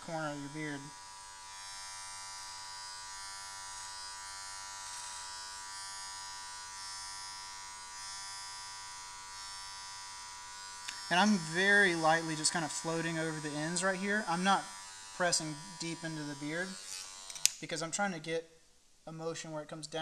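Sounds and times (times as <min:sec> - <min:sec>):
electric hair clipper buzzing: 0:00.0 - 0:17.6.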